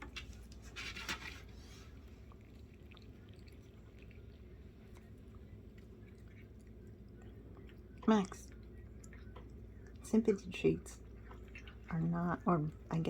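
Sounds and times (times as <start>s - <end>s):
cat chewing a treat: 0.0s - 10.1s, 10.9s - 11.9s
low room hum: 0.0s - 13.0s.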